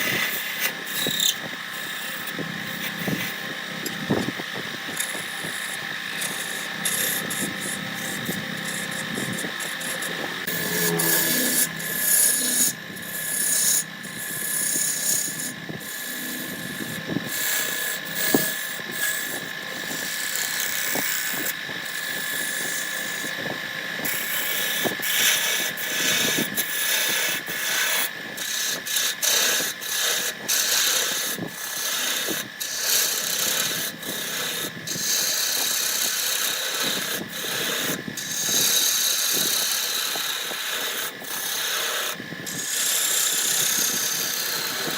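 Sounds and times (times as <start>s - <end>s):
tool scraping spinning wood: 0.0s - 44.9s
wood lathe whine: 0.0s - 44.9s.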